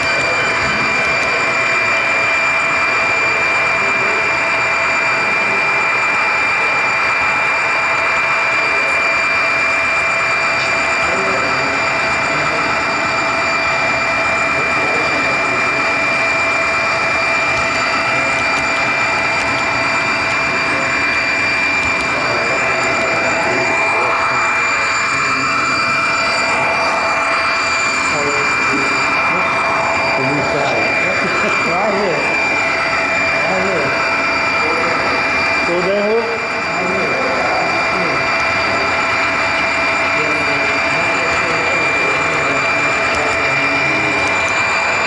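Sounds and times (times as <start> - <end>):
model train rolling with whine: 0.0 - 45.0.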